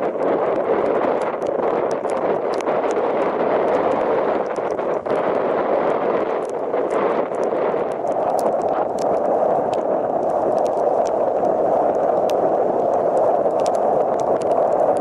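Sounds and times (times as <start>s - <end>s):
rain ticking on camera: 0.0s - 15.0s
storm surf: 0.0s - 15.0s
strong wind on microphone: 0.0s - 15.0s.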